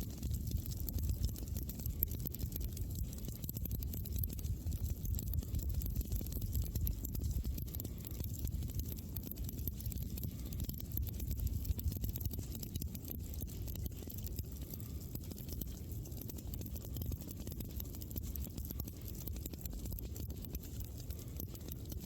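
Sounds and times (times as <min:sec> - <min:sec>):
campfire crackling and popping: 0:00.0 - 0:22.0
low rumble of burning fire: 0:00.0 - 0:22.0.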